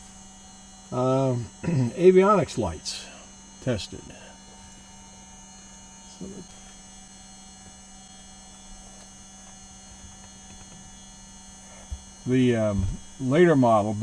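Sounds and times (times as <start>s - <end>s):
faint high whine: 0.0s - 14.0s
low electrical hum: 0.0s - 14.0s.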